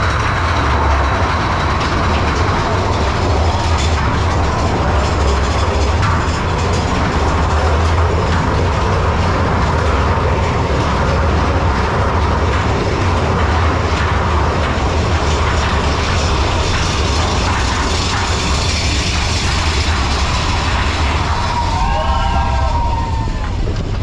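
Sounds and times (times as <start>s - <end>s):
roller coaster rumbling on track: 0.0s - 24.0s
wheels clattering: 0.0s - 24.0s.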